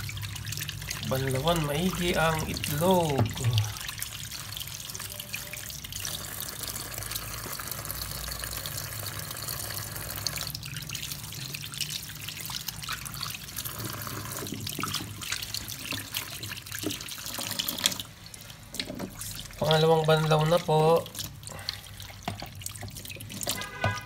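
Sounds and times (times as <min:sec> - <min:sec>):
tap water splashing in sink: 0:00.0 - 0:24.0.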